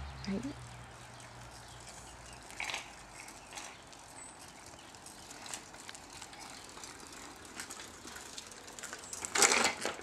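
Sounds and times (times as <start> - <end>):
bicycle rolling: 0.0 - 10.0.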